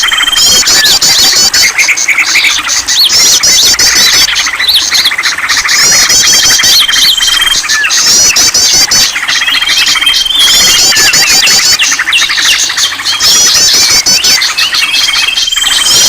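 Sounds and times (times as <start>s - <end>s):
long steady bird trill: 0.0s - 16.0s
songbirds chirping and whistling: 0.0s - 16.0s.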